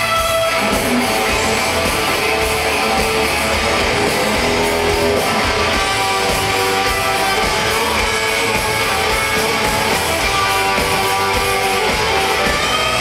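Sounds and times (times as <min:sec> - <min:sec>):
distorted electric guitars: 0:00.0 - 0:13.0
hard rock band playing live: 0:00.0 - 0:13.0.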